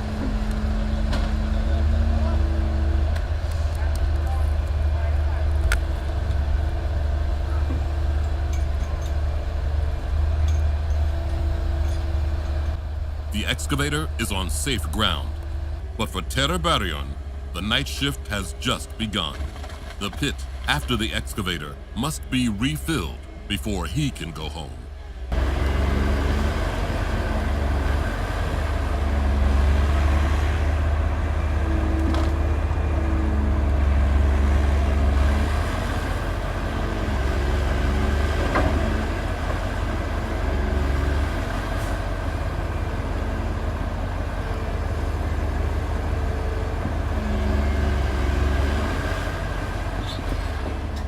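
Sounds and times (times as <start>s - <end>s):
diesel engine of earthmoving machine: 0.0s - 51.0s.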